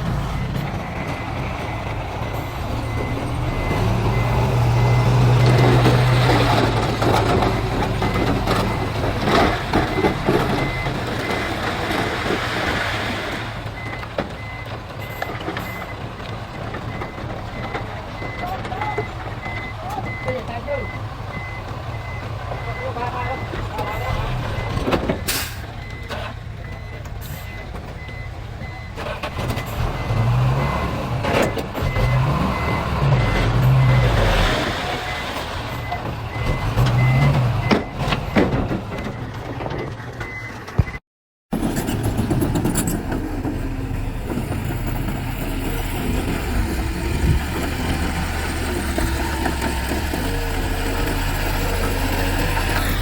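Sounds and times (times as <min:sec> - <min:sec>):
diesel engine revving: 0:00.0 - 0:40.3, 0:41.5 - 0:53.0
truck reversing beeper: 0:00.0 - 0:53.0.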